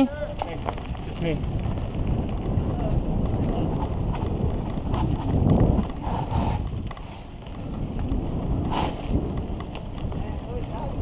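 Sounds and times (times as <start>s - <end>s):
bike rattling and clicking: 0.0s - 11.0s
bike tyres rumbling over dirt: 0.0s - 11.0s.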